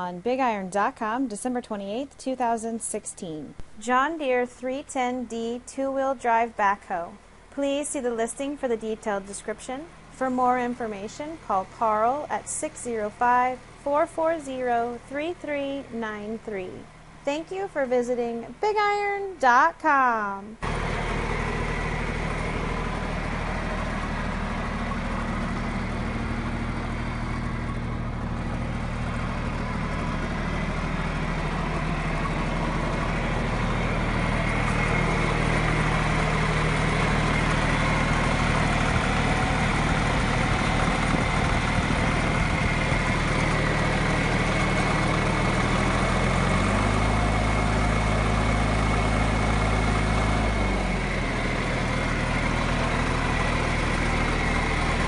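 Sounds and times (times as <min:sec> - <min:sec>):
diesel engine idling: 0:03.0 - 0:19.3, 0:20.6 - 0:55.0.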